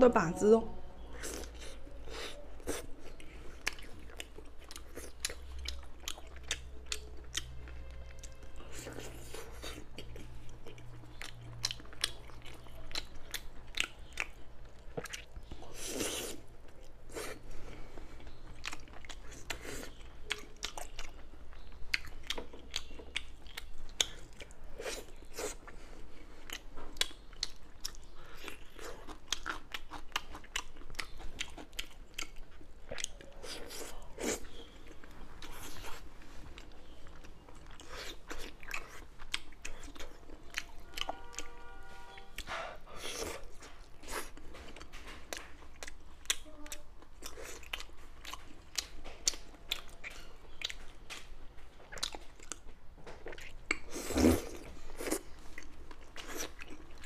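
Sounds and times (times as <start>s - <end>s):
chewing with wet mouth clicks: 1.1s - 17.4s, 18.2s - 41.5s, 42.1s - 57.0s.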